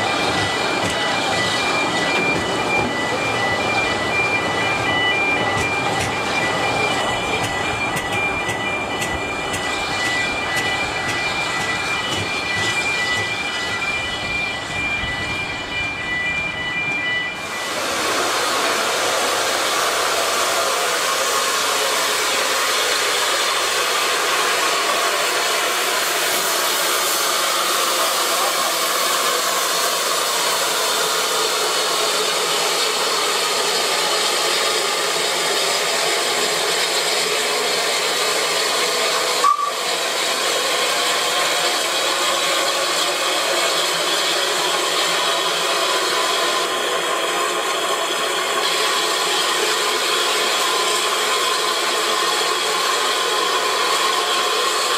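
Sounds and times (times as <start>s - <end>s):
steam locomotive hissing: 0.0s - 54.9s.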